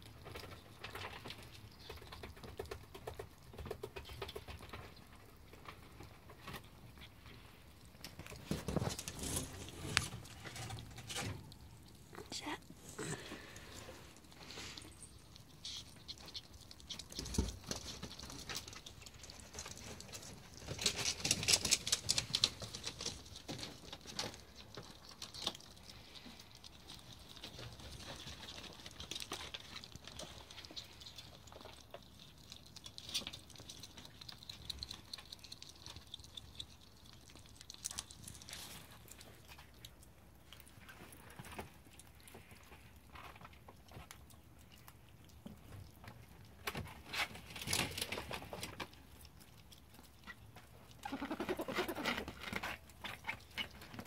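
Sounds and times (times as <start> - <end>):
ferrets crunching bones: 0.0 - 54.0.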